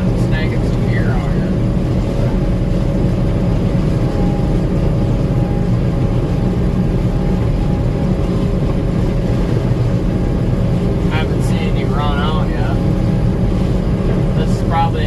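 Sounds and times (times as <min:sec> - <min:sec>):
combine harvester droning: 0:00.0 - 0:15.0
machinery whining tones: 0:00.0 - 0:15.0.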